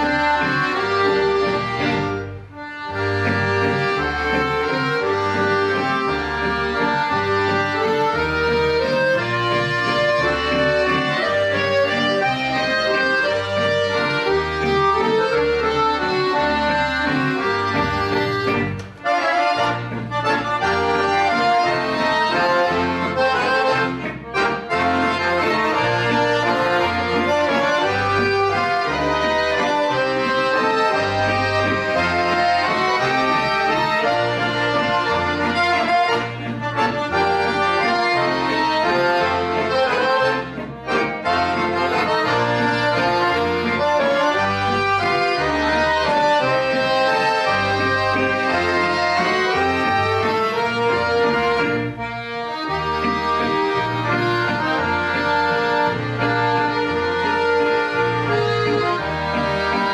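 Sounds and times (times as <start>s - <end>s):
accordions playing a tune: 0.0s - 59.9s
rhythmic bass line: 0.0s - 59.9s.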